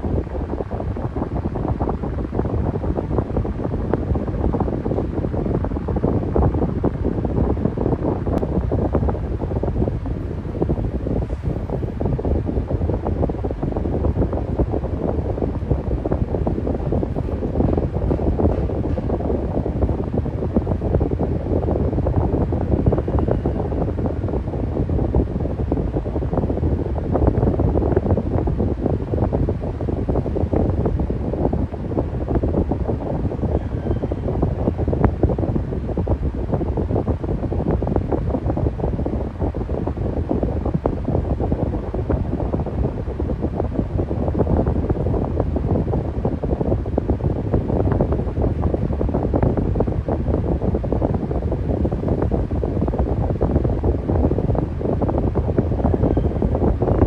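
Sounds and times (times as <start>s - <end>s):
air buffeting microphone: 0.0s - 57.0s
electric fan running: 0.0s - 57.0s.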